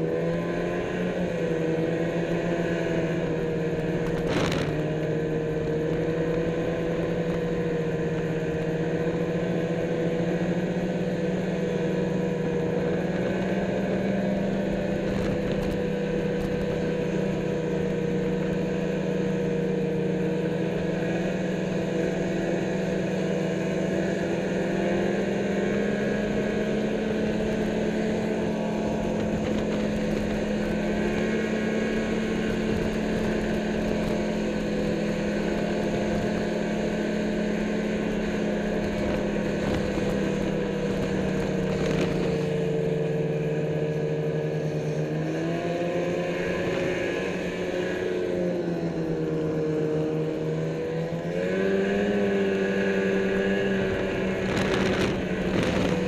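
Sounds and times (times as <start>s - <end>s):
snowmobile engine droning: 0.0s - 56.0s.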